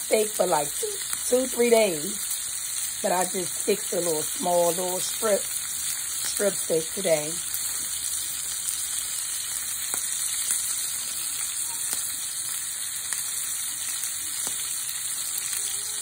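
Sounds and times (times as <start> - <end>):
steak sizzling in oil: 0.0 - 16.0.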